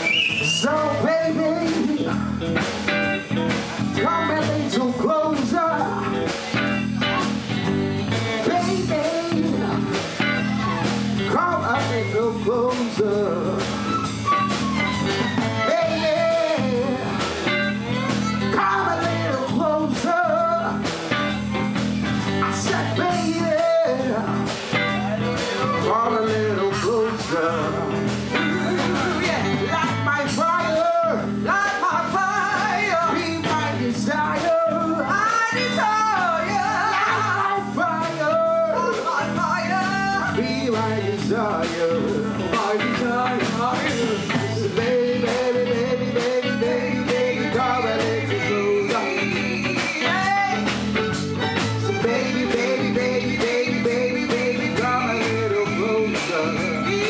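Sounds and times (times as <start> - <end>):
men singing: 0.0 - 2.7, 3.5 - 7.3, 7.9 - 21.1, 22.1 - 57.0
bass guitar: 0.0 - 57.0
electric guitar: 0.0 - 57.0.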